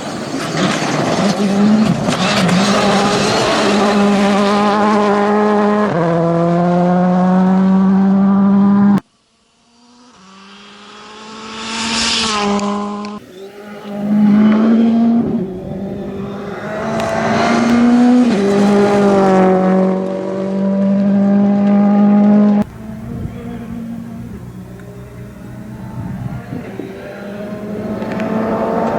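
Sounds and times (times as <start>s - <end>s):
rally car engine revving past: 0.3s - 9.0s, 9.7s - 28.9s
rally car engine high note: 1.4s - 28.9s.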